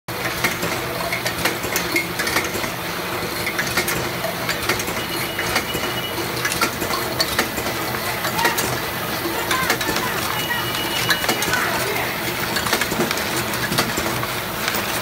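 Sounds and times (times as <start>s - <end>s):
machine humming: 2.7s - 15.0s.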